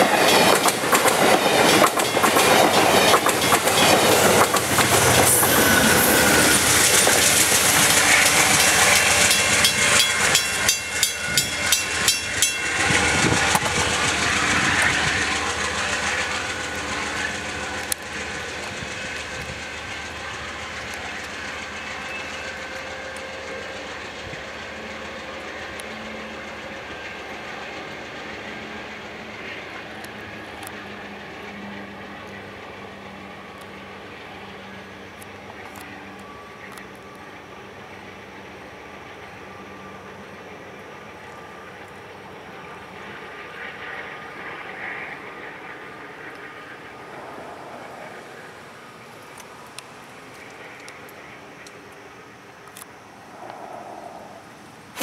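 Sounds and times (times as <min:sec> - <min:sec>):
train wheels clickety-clack: 0:00.0 - 0:53.6
train wheels rushing on rail: 0:00.0 - 0:55.0.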